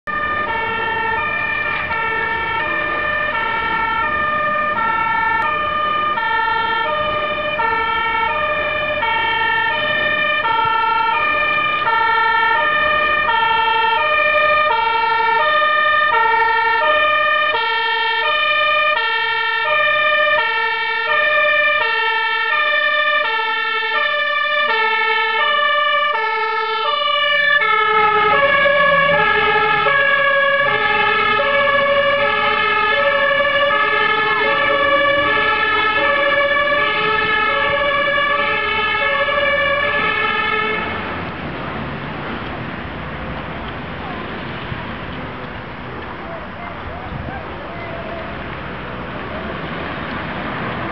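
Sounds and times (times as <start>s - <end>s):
fire engine two-tone siren: 0.0s - 45.1s
truck engine: 0.0s - 50.9s.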